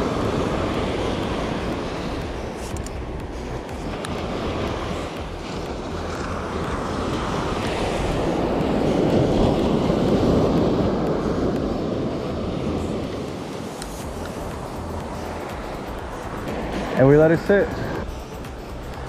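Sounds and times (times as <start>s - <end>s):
surf breaking on beach: 0.0s - 18.6s
wind buffeting microphone: 0.0s - 19.0s.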